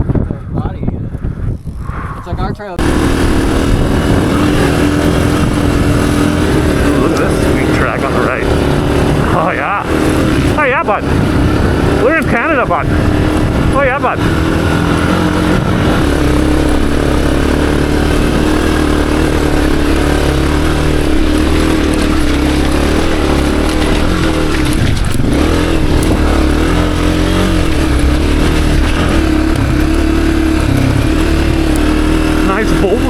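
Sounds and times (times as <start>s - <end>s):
dirt bike engine under load: 2.8s - 33.0s.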